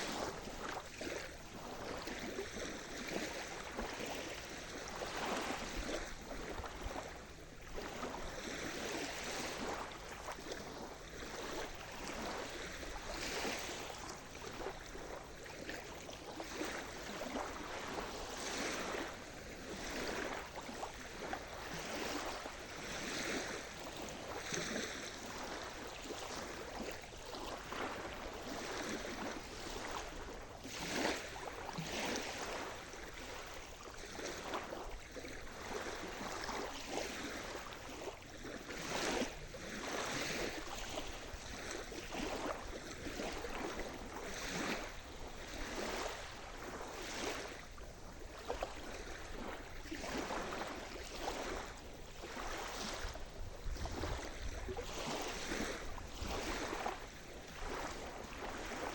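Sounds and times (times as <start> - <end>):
small waves washing and splashing: 0.0 - 58.9.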